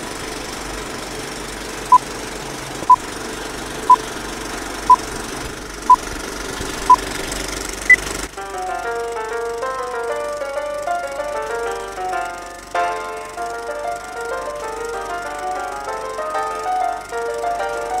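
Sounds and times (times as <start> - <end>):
film projector clattering: 0.0 - 18.0.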